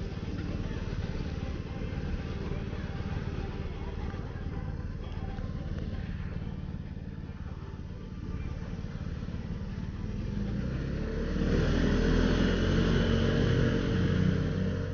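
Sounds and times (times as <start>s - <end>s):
motorcycle engine running: 0.0s - 14.9s
road and wind noise: 0.0s - 14.9s.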